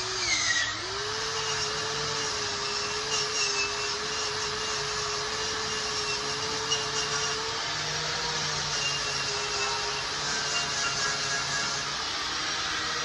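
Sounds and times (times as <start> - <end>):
wire brush scratching steel: 0.0 - 13.0
wire wheel grinder motor whine: 0.0 - 13.0.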